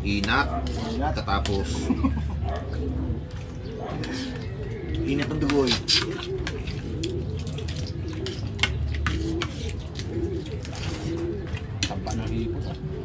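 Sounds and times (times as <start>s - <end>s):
dove cooing: 0.4s - 13.0s.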